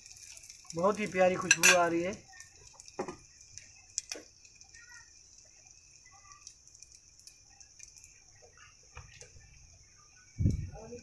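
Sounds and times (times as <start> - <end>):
bread frying in oil: 0.0 - 11.0
small crackles and pops: 0.0 - 11.0.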